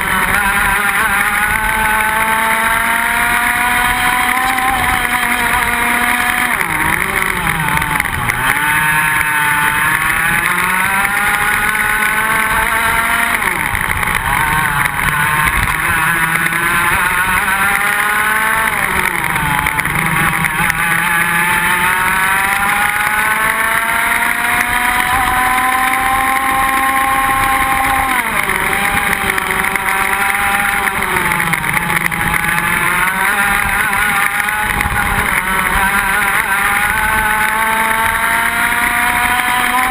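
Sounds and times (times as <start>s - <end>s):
kart engine at racing speed: 0.0s - 39.9s.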